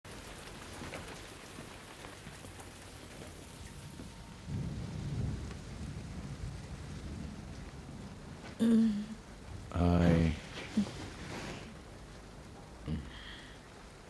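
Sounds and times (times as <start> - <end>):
steady rain: 0.0 - 14.0
low roll of thunder: 0.1 - 13.0.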